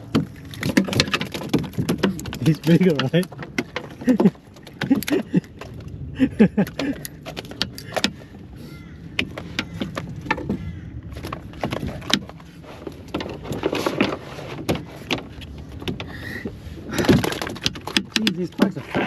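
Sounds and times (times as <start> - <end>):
clicks and knocks in a canoe: 0.0 - 19.0
steady low rumble: 0.0 - 19.0.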